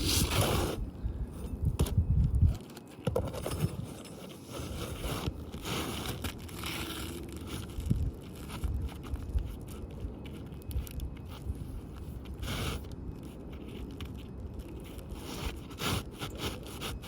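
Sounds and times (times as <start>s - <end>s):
roof shingles scraping and crackling: 2.6s - 17.0s.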